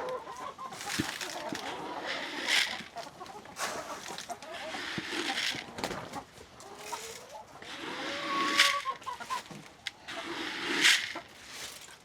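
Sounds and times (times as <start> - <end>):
chickens clucking: 0.0 - 11.4.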